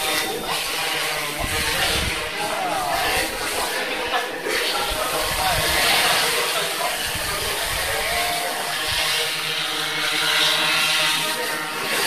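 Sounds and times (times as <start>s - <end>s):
quadcopter drone whirring: 0.0s - 12.0s.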